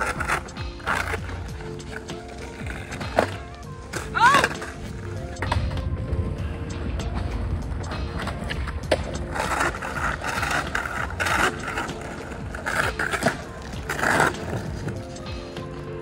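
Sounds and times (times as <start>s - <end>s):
skateboard clacks on ground: 0.0s - 5.9s, 7.0s - 15.9s
skateboard wheels rolling on stone: 0.0s - 16.0s.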